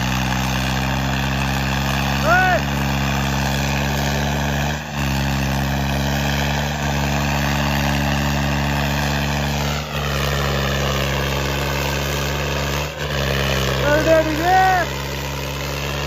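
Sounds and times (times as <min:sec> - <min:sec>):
tractor diesel engine at high revs: 0:00.0 - 0:16.0.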